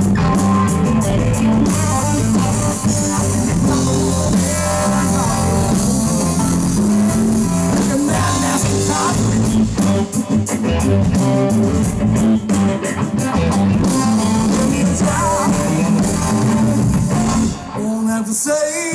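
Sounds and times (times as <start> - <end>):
blues rock band playing: 0.0 - 18.2.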